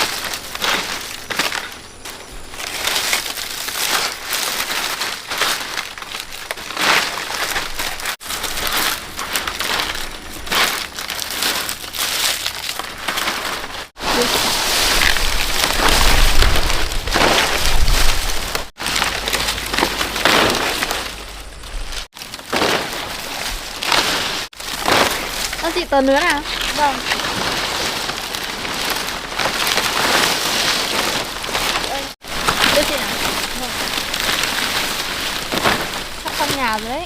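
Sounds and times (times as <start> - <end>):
dry palm leaves rustling: 0.0 - 37.0.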